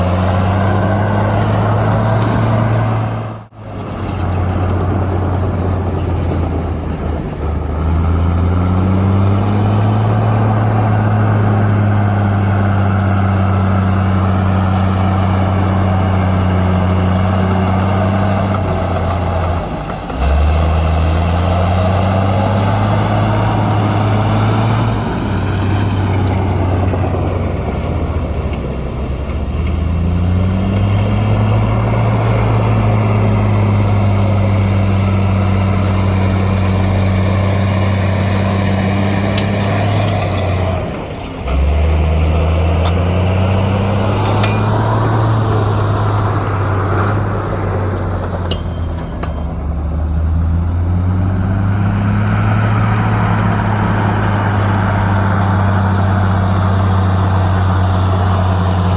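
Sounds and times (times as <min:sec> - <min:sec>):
heavy diesel engine under load: 0:00.0 - 0:58.9.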